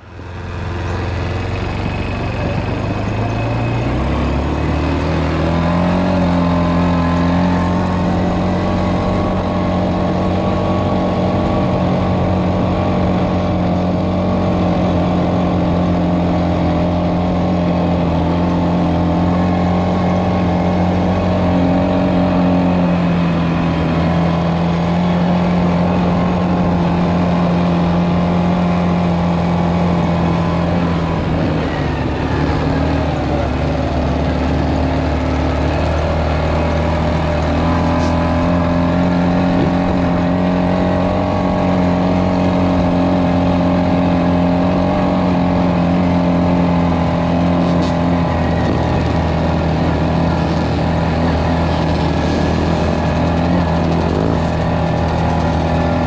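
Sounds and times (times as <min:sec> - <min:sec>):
atv engine: 0:00.0 - 0:56.0.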